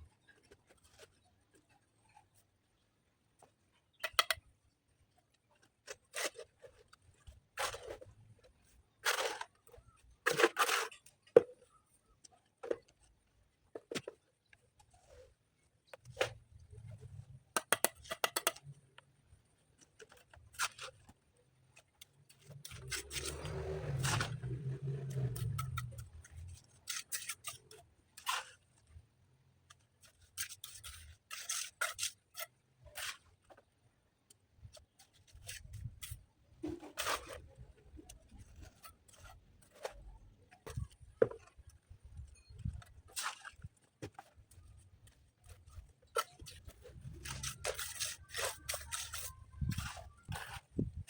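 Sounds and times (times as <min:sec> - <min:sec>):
stones and tools scraping and knocking: 0:00.0 - 0:02.8, 0:03.4 - 0:29.0, 0:29.6 - 0:51.0.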